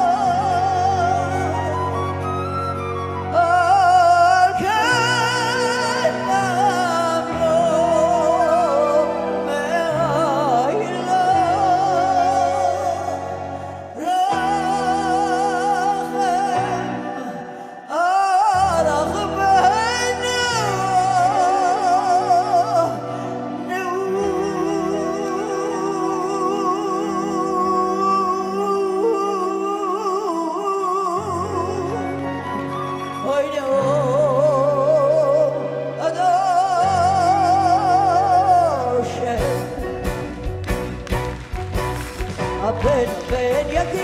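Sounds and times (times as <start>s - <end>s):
flute: 0.0s - 42.8s.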